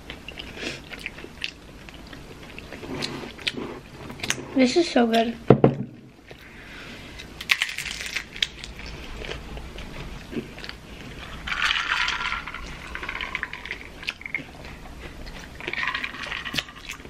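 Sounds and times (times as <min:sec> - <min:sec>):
chewing with crunches: 0:00.0 - 0:05.2, 0:08.2 - 0:17.0.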